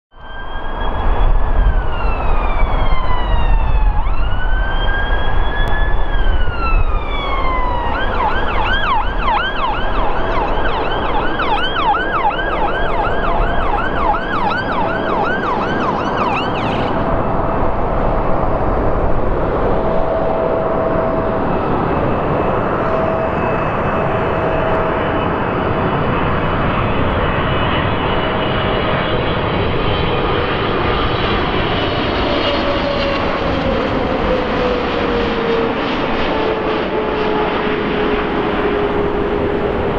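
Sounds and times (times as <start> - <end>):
emergency vehicle siren: 0.1 - 39.9
jet engines roaring: 0.2 - 39.9.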